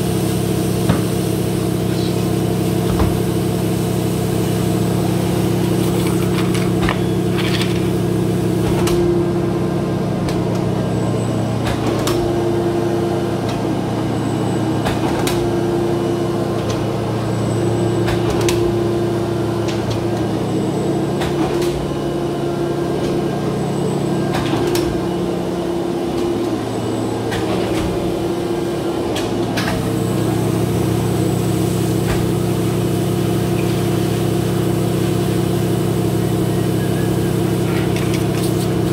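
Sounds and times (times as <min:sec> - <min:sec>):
paper cutter machine hum: 0:00.0 - 0:38.9.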